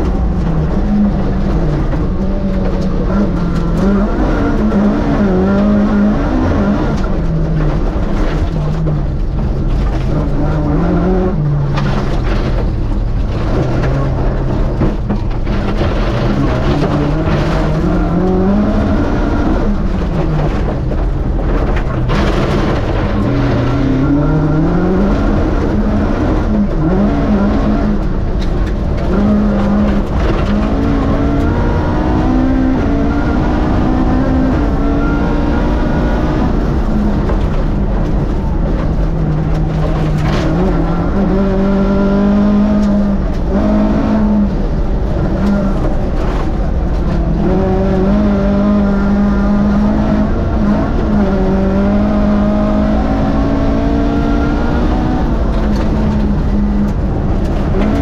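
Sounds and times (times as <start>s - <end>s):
race car engine accelerating: 0.0s - 58.0s
tyre and road noise: 0.0s - 58.0s.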